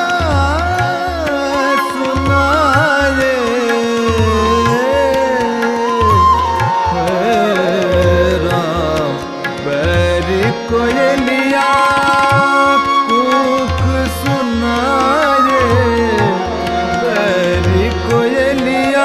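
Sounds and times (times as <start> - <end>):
harmonium: 0.0 - 19.0
man singing wordless line: 0.0 - 19.0
slow tabla beat: 0.0 - 19.0
tanpura drone: 0.0 - 19.0.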